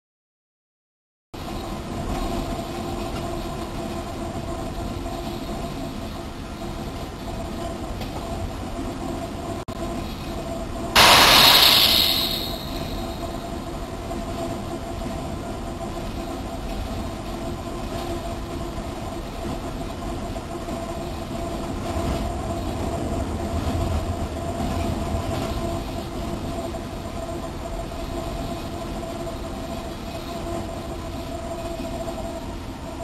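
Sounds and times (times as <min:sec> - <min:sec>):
freight train rumbling on rails: 0:01.4 - 0:33.0.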